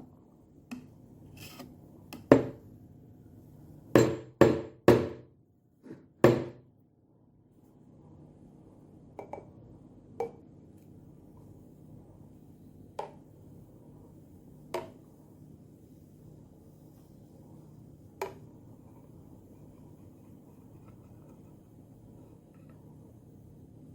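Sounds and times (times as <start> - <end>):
faint steady hum: 0.0 - 23.9.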